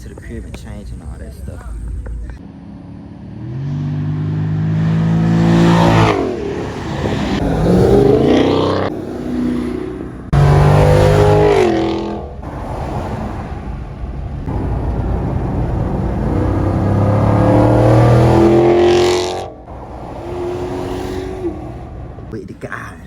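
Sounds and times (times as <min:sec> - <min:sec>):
car engine accelerating: 0:00.0 - 0:22.3.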